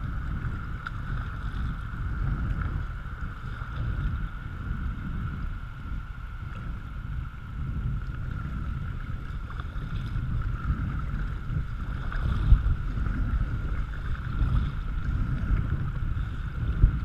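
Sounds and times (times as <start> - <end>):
paddle strokes: 0.0 - 17.0
water washing against hull: 0.0 - 17.0
wind rumble on microphone: 0.0 - 17.0.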